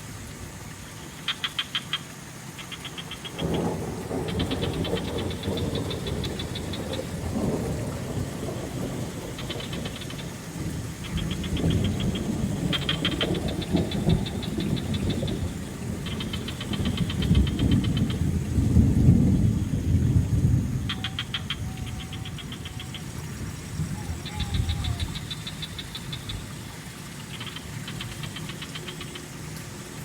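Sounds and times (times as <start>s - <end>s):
low rumbling wash of water: 0.0s - 30.0s
frogs trilling: 0.7s - 30.0s.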